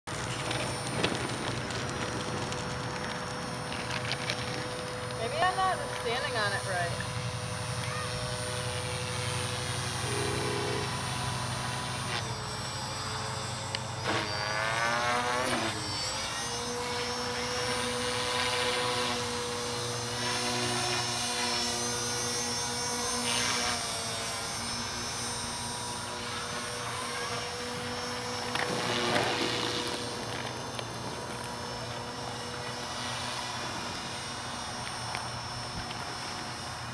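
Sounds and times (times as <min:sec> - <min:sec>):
rc helicopter rotor whining: 0:00.1 - 0:36.9.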